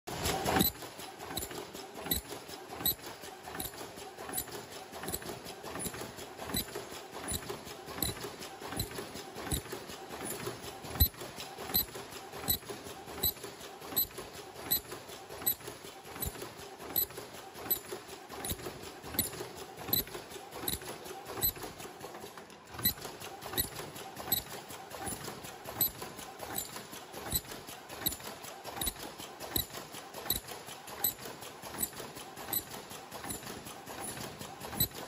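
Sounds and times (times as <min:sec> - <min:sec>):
welding machine clattering: 0:00.1 - 0:22.2, 0:22.8 - 0:35.0.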